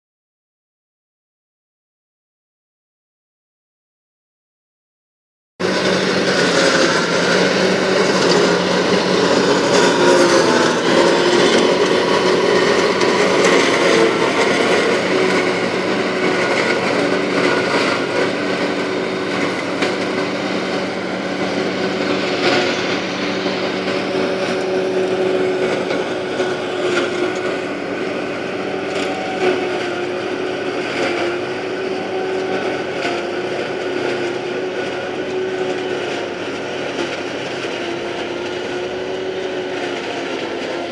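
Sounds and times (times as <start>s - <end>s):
tractor and forage harvester drone: 5.6s - 40.9s.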